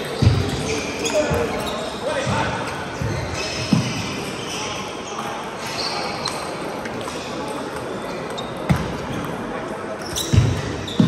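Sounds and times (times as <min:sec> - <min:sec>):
sports hall background noise: 0:00.0 - 0:11.0.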